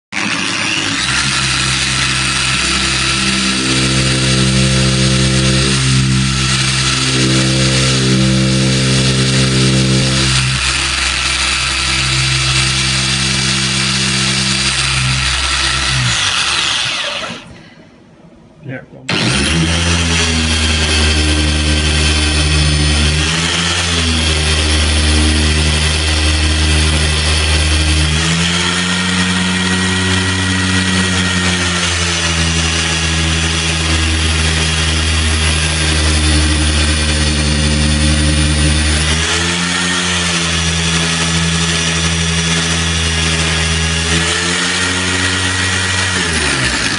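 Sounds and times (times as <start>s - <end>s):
polisher motor humming: 0.1s - 17.6s, 19.1s - 46.9s.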